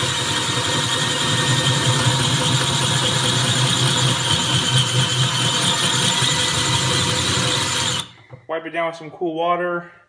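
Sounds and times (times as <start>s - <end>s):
drill hole saw grinding stone: 0.0s - 8.2s.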